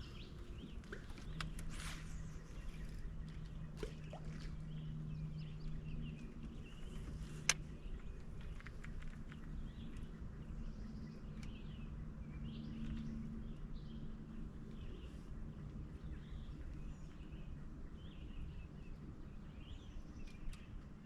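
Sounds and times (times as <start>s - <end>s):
birds chirping: 0.0s - 20.9s
steady low hum: 0.0s - 21.0s.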